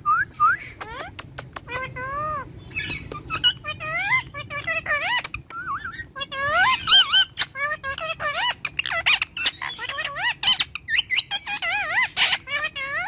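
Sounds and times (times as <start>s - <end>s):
parrot chattering: 0.6s - 13.0s.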